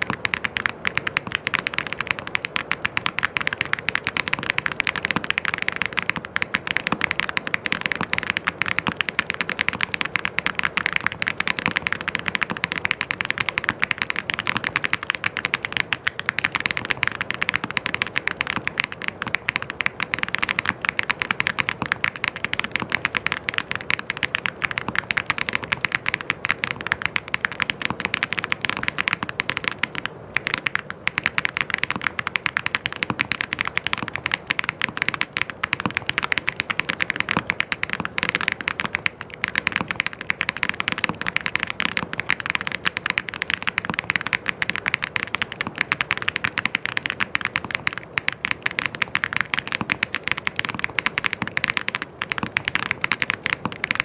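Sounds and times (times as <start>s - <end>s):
typing on mechanical keyboard: 0.0s - 54.0s.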